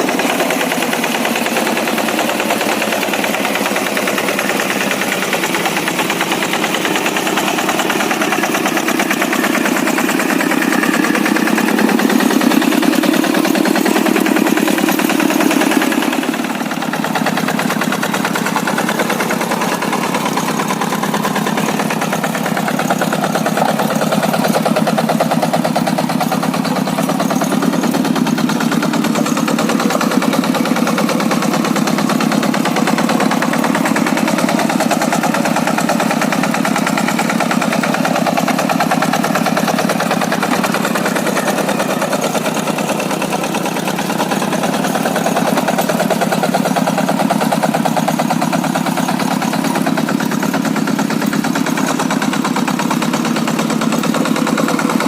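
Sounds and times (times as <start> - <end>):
hand tractor diesel engine running: 0.0 - 55.0.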